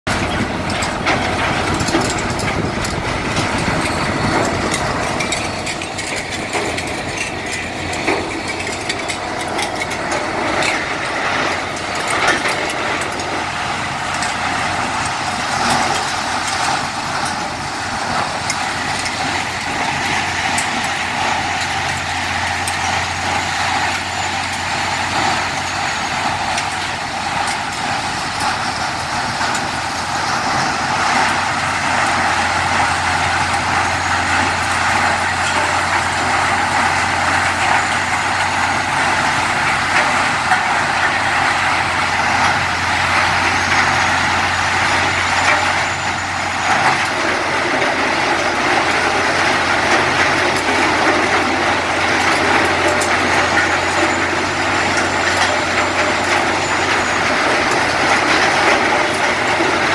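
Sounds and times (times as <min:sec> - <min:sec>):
loud machine drone: 0:00.1 - 0:59.9.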